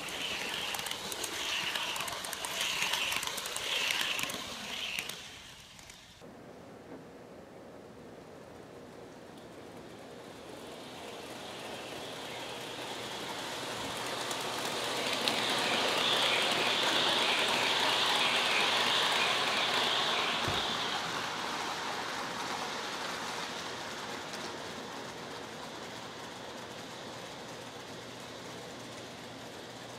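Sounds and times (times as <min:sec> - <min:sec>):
model train wheels rolling: 0:00.0 - 0:06.2, 0:08.3 - 0:29.9.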